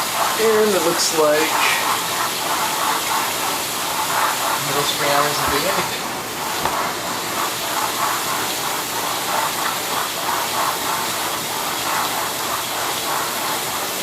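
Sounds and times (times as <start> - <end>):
dishwasher water jets spraying: 0.0 - 14.0.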